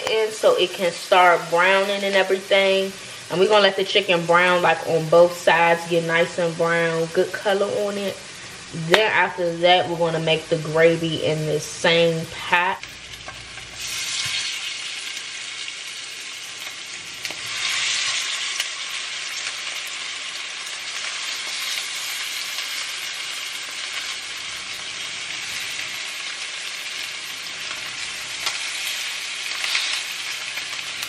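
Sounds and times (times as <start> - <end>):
chicken sizzling in frying pan: 0.0 - 31.0.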